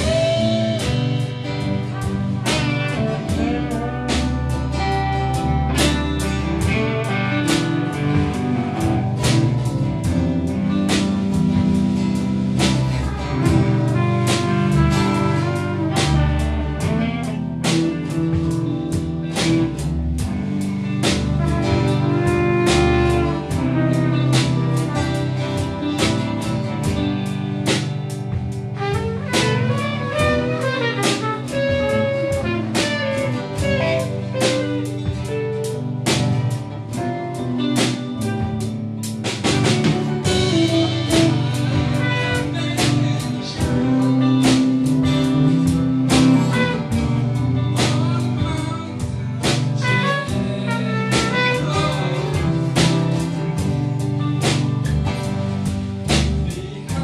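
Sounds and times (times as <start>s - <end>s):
drum kit steady beat: 0.0s - 57.0s
guitar: 0.0s - 57.0s.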